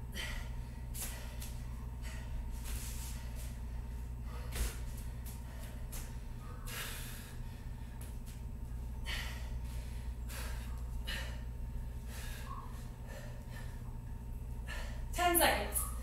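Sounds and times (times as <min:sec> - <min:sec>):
person breathing hard: 0:00.0 - 0:08.2, 0:09.0 - 0:15.1
steady low hum: 0:00.0 - 0:16.0.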